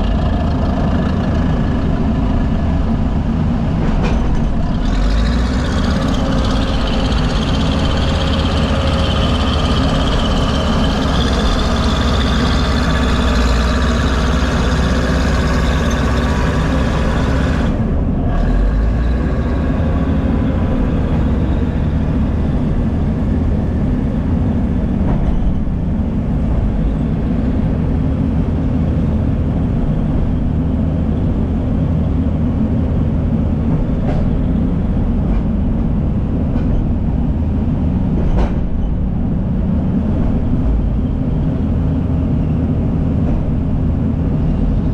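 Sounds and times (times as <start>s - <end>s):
diesel engines rumbling: 0.0s - 44.9s.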